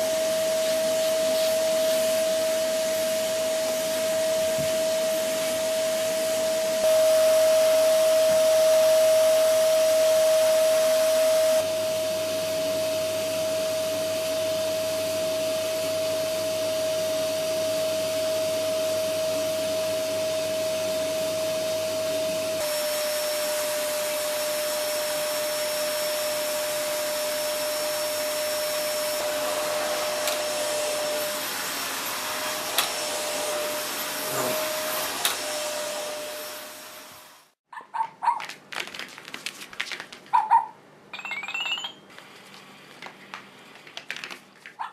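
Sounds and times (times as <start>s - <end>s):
vacuum cleaner whining: 0.0s - 37.6s.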